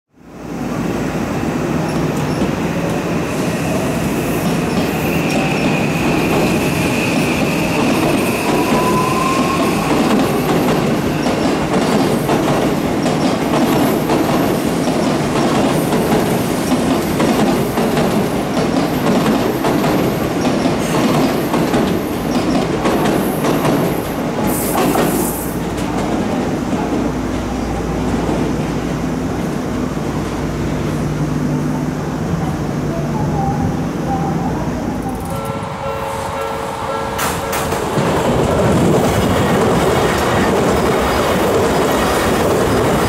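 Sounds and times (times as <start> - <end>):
train wheels rumbling on rail: 0.3 - 43.0.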